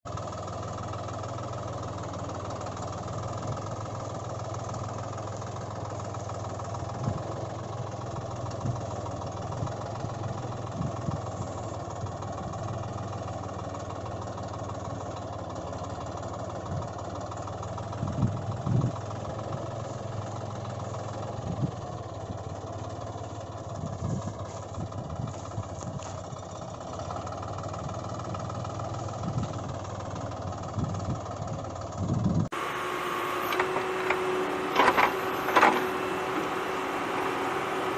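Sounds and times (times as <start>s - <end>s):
engine idling: 0.1s - 37.9s.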